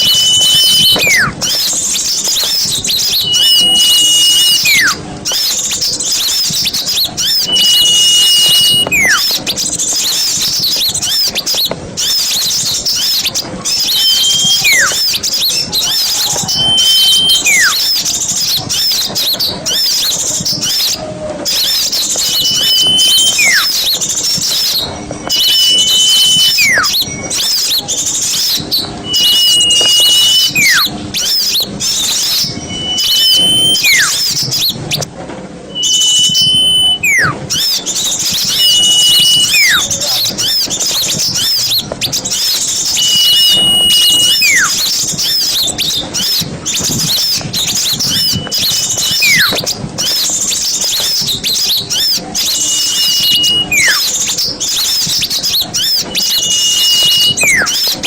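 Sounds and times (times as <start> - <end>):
small songbirds chattering: 0.0 - 35.1, 35.7 - 58.0
whistled bird phrase: 0.0 - 35.1, 35.7 - 58.0.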